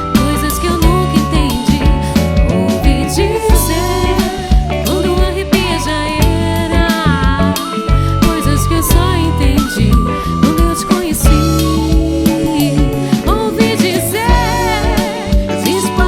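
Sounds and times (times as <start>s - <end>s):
bass notes: 0.0s - 16.0s
drum beats: 0.0s - 16.0s
gliding melodic lead line: 0.0s - 16.0s
live band playing: 0.0s - 16.0s.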